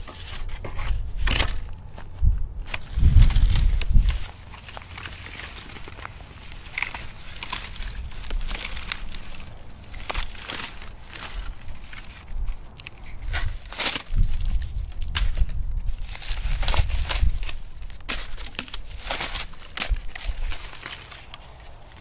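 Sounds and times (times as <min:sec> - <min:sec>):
dry leaves crackling: 0:00.0 - 0:22.0.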